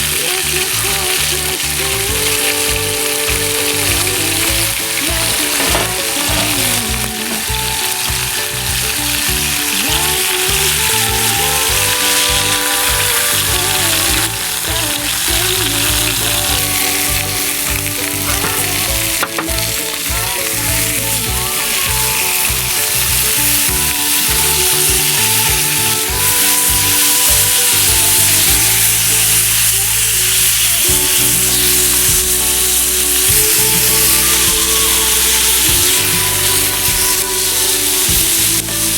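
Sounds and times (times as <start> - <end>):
background music: 0.0 - 38.9
meat sizzling over fire: 0.0 - 38.9.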